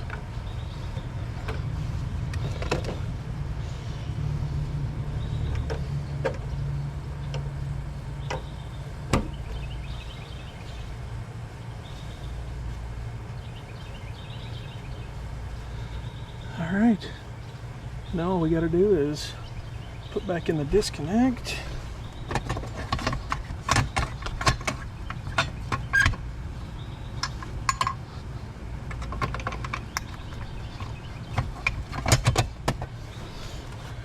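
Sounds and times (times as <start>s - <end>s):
low background rumble: 0.0s - 34.0s.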